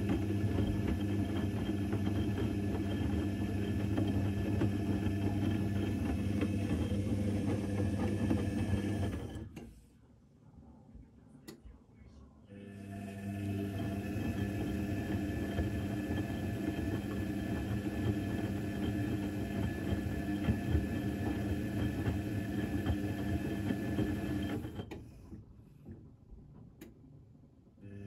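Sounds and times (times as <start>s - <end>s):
washing machine running: 0.0s - 9.6s, 12.5s - 25.4s, 27.8s - 28.0s.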